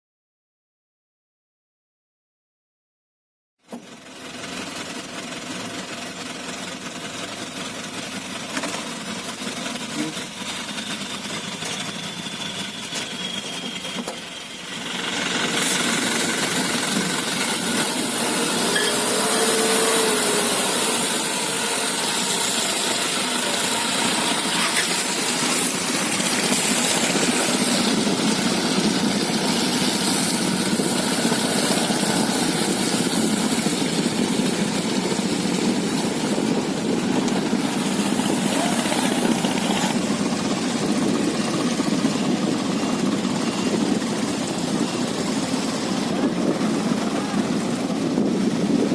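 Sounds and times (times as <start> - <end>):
truck diesel engine running: 3.8 - 48.9.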